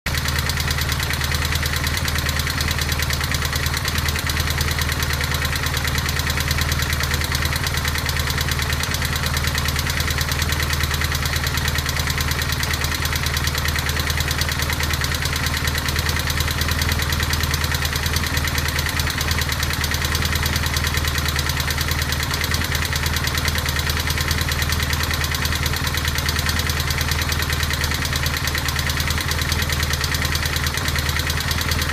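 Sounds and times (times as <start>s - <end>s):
motorcycle engine idling: 0.1s - 31.9s.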